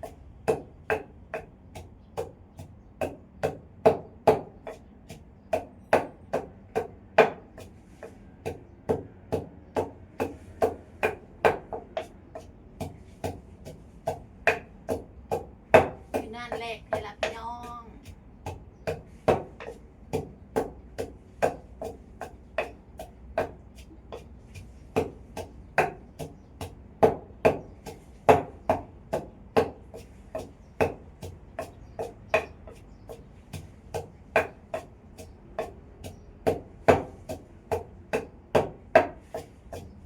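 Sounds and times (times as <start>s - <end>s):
knocking on wood: 0.0s - 40.0s.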